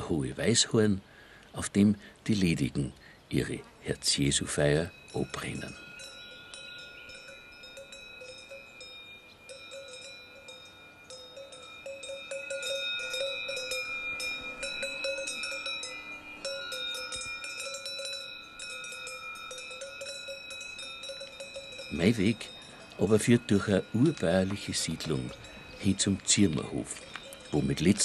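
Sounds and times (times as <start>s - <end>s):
cowbells clanking: 4.0s - 28.0s.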